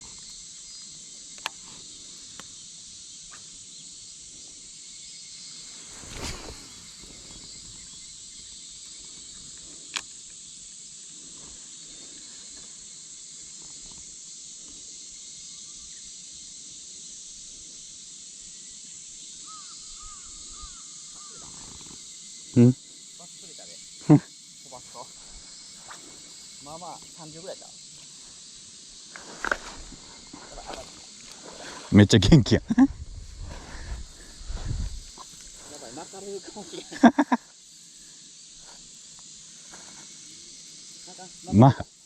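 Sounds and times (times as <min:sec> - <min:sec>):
high-pitched insect drone: 0:00.0 - 0:42.0
rustle: 0:00.0 - 0:42.0.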